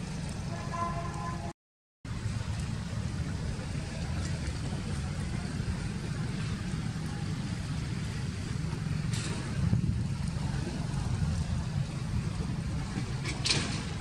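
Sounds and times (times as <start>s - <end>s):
low outdoor rumble: 0.0s - 1.5s, 2.1s - 14.0s.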